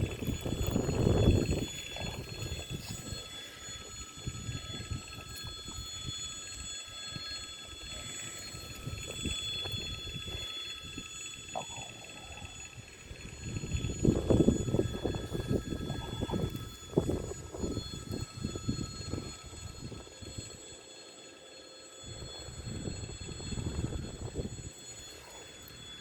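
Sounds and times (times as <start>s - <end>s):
wind buffeting microphone: 0.0s - 20.4s, 22.1s - 24.8s
faint high-pitched tones: 0.0s - 26.0s.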